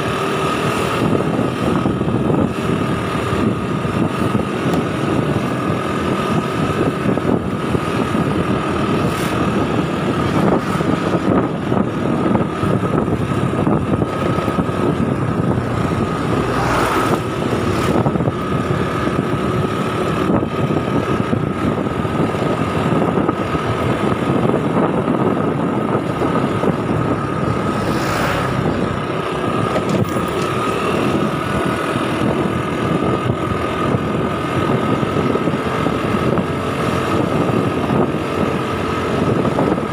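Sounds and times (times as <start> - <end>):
scooter engine whine: 0.0 - 39.9
wind buffeting microphone: 0.0 - 39.9.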